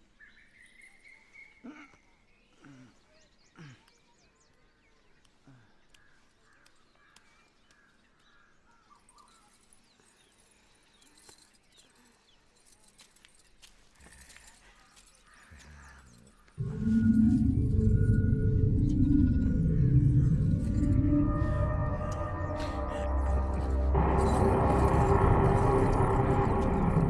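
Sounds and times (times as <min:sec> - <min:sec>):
faint birds chirping: 0:00.0 - 0:27.0.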